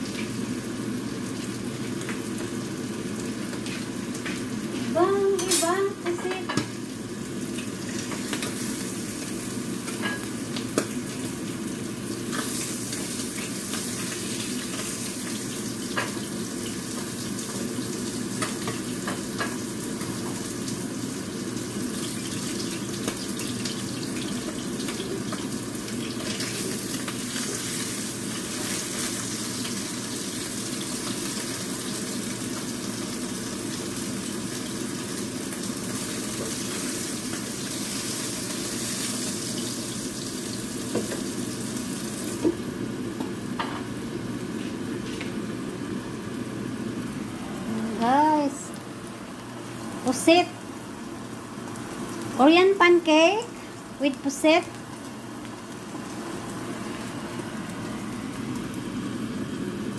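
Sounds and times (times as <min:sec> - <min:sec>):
oil sizzling in frying pan: 0:00.0 - 0:59.9.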